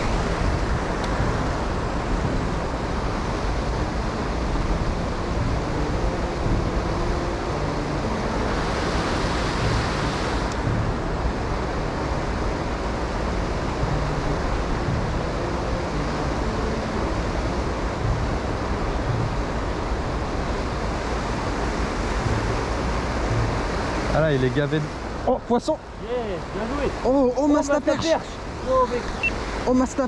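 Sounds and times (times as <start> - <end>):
river water pouring over a weir: 0.0 - 30.0.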